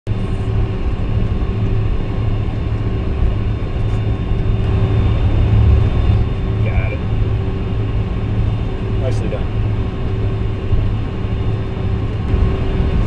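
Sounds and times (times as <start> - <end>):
jet engines low rumble: 0.0 - 13.0
faint steady engine tones: 0.1 - 13.0.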